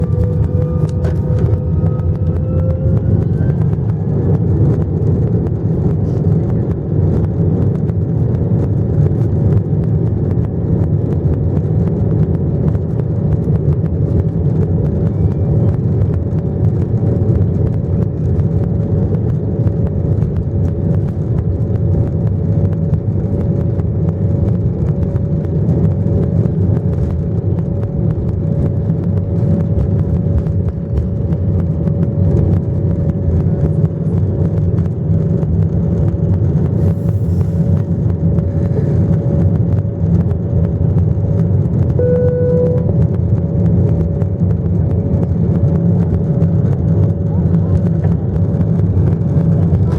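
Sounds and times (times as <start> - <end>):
jet engines rumbling and whining: 0.0 - 49.9.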